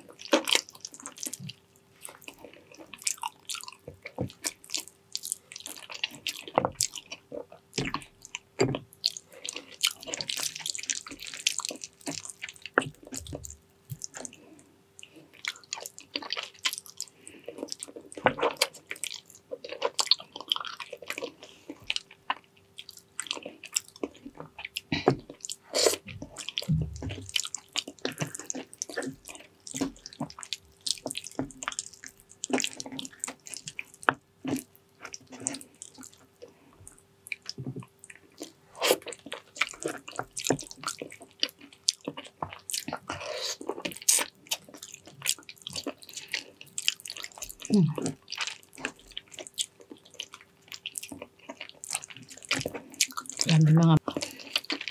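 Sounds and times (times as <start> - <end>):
faint steady hum: 0.0 - 54.9
wet chewing and lip smacking: 0.0 - 54.9.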